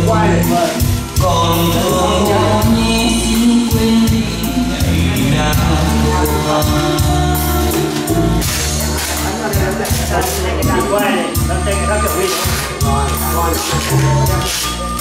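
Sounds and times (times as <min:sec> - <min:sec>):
song with singer over speakers: 0:00.0 - 0:15.0.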